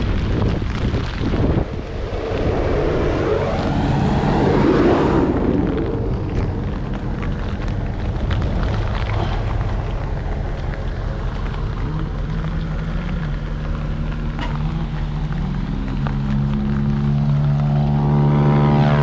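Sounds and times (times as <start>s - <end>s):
tractor engine revving: 0.7s - 19.0s.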